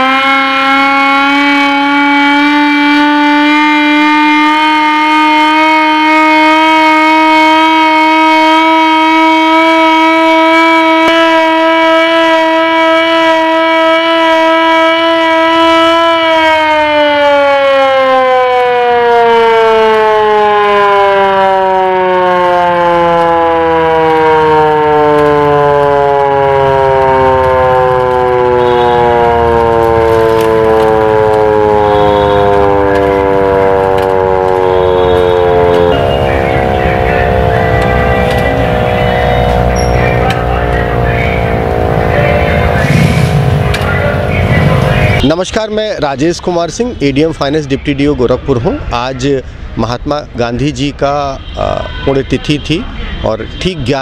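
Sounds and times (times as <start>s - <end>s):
hand-cranked siren wailing: 0.0s - 45.4s.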